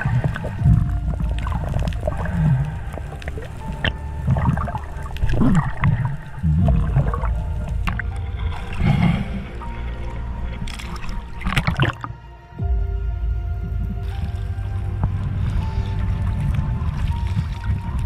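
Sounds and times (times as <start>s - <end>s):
faint music: 0.0s - 18.0s
water rushing and gurgling: 0.0s - 18.0s.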